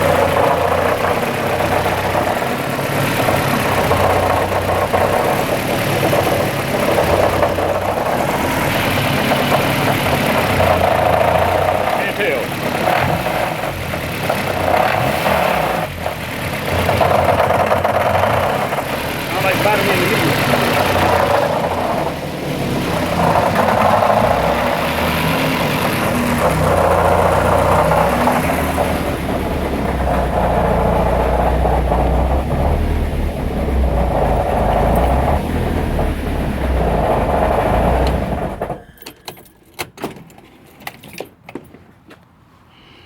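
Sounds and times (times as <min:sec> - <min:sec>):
car engine knocking: 0:00.0 - 0:39.7.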